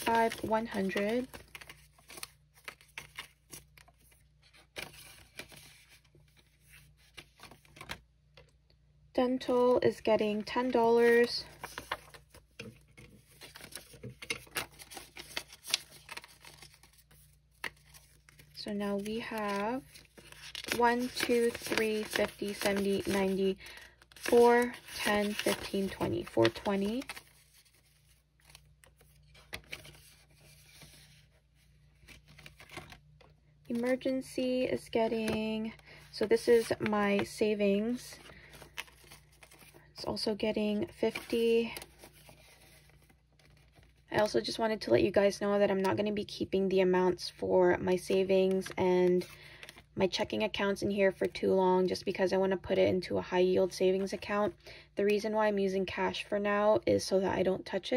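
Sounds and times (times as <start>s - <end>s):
banknotes crinkling and rustling: 0.0s - 8.6s, 9.4s - 44.6s, 47.9s - 52.0s.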